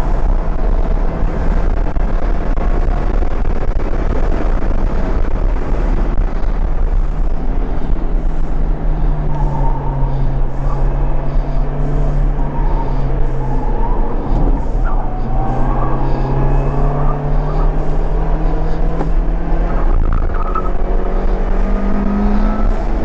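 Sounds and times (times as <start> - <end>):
car engine and road noise: 0.0 - 23.0
driver breathing heavily: 0.0 - 23.0.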